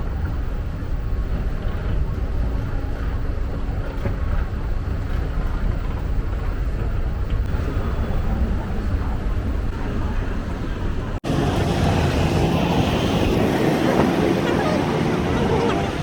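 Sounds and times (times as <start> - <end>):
boat engine rumbling: 0.0 - 16.0
wind buffeting microphone: 0.0 - 16.0.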